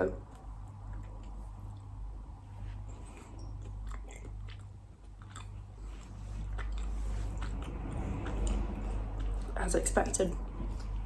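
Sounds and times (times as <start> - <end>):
steady low hum: 0.0 - 11.0
wet chewing mouth sounds: 0.2 - 11.0.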